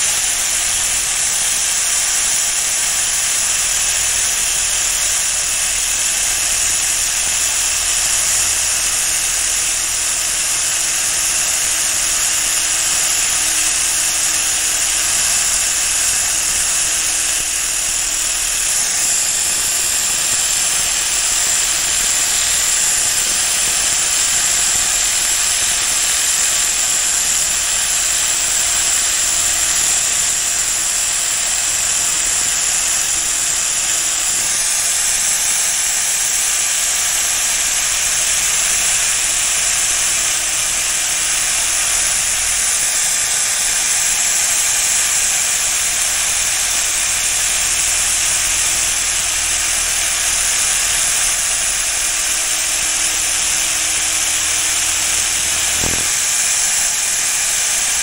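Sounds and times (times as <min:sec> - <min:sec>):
power sander grinding steel: 0:00.0 - 0:58.0.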